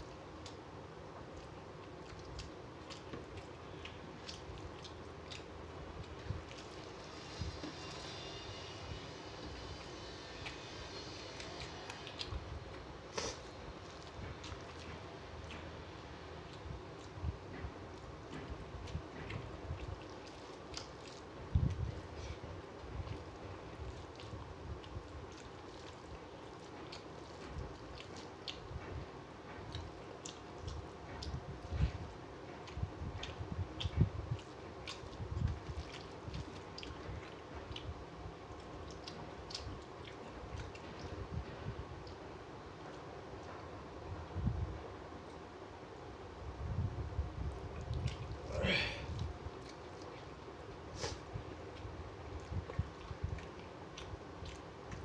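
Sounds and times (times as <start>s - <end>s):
low background noise: 0.0s - 55.0s
person chewing food: 1.2s - 8.5s, 9.7s - 43.8s, 47.4s - 55.0s.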